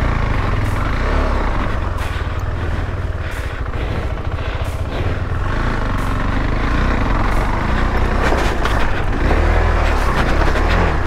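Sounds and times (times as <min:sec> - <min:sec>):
motorcycle engine under load: 0:00.0 - 0:11.0.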